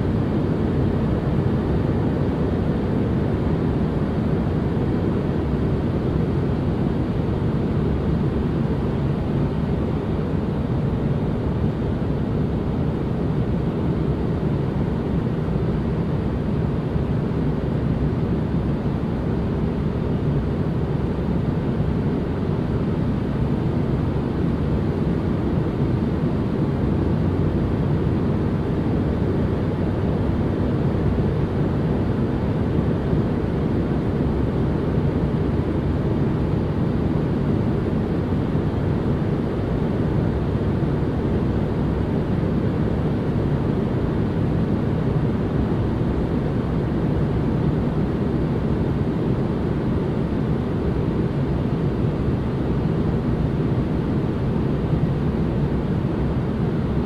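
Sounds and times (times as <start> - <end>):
deep white noise rush: 0.0 - 57.0.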